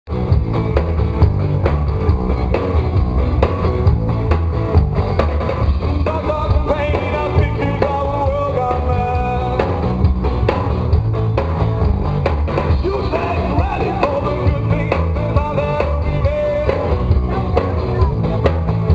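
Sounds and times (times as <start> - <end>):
live rock band: 0.1 - 18.9
melodic guitar line: 0.1 - 18.9.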